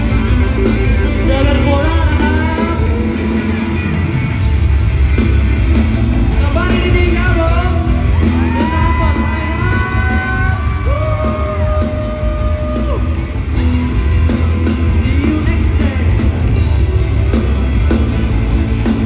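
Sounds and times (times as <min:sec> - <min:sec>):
live concert music: 0:00.0 - 0:19.0
crowd yelling: 0:03.3 - 0:19.0.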